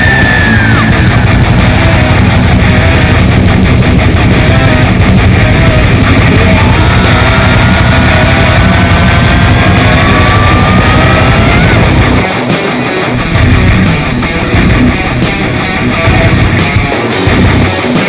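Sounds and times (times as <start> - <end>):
rock music with electric guitar: 0.0 - 18.0.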